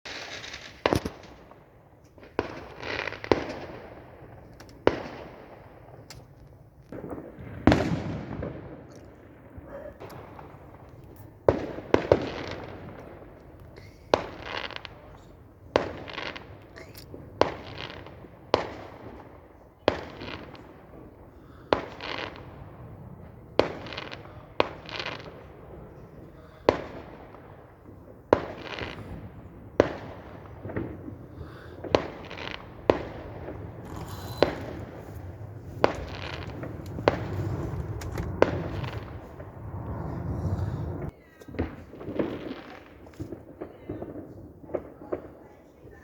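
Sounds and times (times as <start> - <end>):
fireworks bangs: 0.1 - 46.0.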